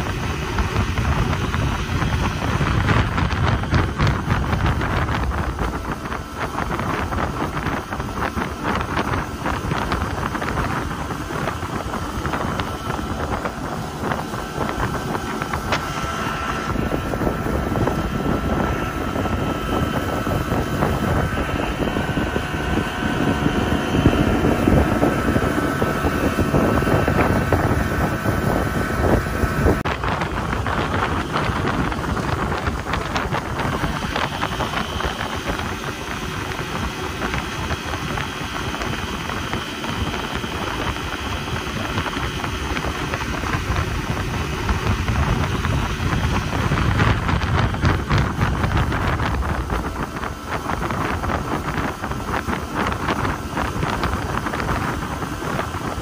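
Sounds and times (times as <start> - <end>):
boat motor running: 0.0 - 56.0
wind rumbling on microphone: 0.0 - 56.0.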